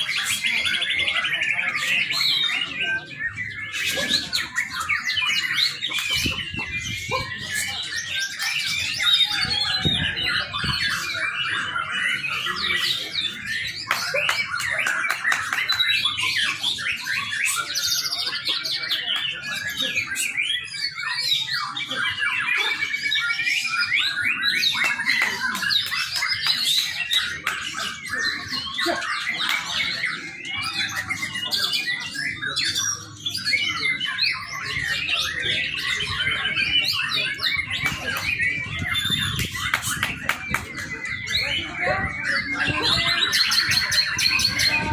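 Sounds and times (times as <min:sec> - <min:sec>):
bird singing chirps and whistles: 0:00.0 - 0:44.9.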